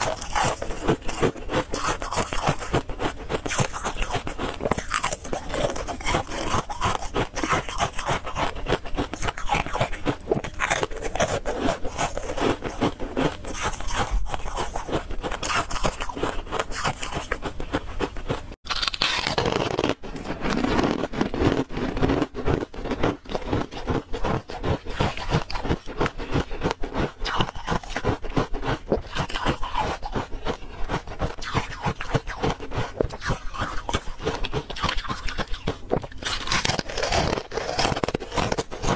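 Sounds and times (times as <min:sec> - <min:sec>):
ice flakes being chewed: 0:00.0 - 0:38.9.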